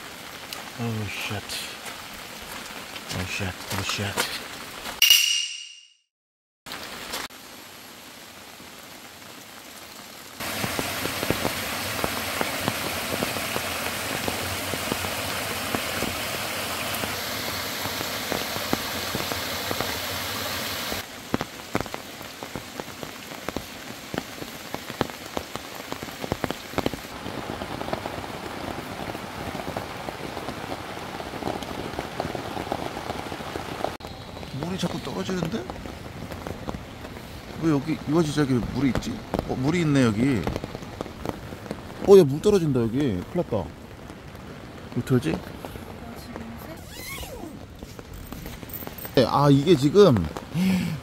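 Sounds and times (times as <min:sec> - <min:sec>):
rain on tent fabric: 0:00.0 - 0:05.0, 0:06.7 - 0:51.0.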